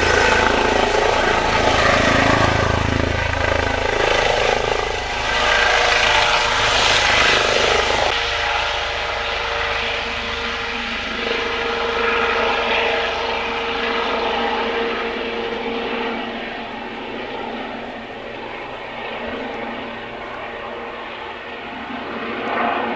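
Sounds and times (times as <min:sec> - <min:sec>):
helicopter rotor and turbine whine: 0:00.0 - 0:22.9.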